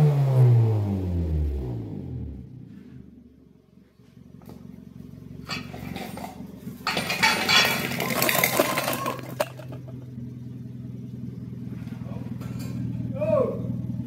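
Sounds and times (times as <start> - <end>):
car engine idling: 1.5 - 14.0.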